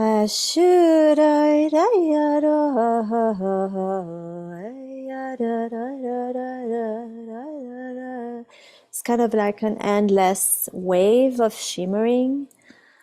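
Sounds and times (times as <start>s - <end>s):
woman singing wordlessly: 0.0s - 12.6s.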